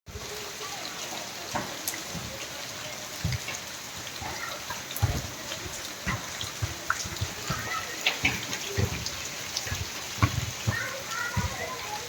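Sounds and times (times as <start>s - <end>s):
steady rain falling: 0.1s - 12.0s.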